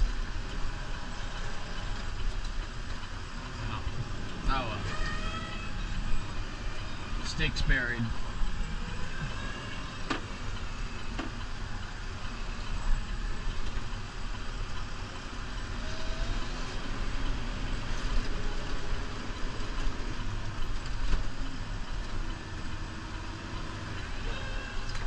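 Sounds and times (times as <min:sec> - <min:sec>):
snow plow rushing noise: 0:00.0 - 0:25.0
tractor diesel engine running: 0:00.0 - 0:25.0.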